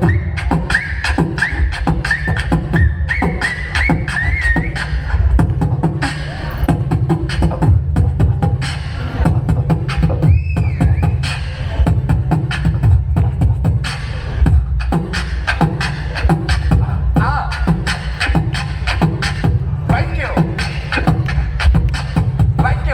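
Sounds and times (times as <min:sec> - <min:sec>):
person beatboxing: 0:00.0 - 0:22.9.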